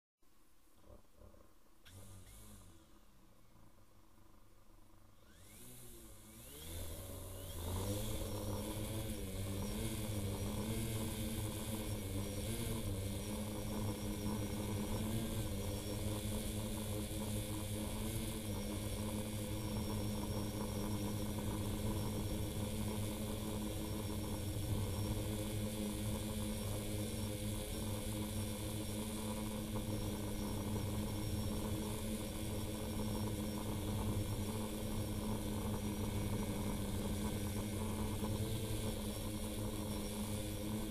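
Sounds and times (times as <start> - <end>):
drone motors whirring: 1.2 - 3.5, 5.1 - 40.9.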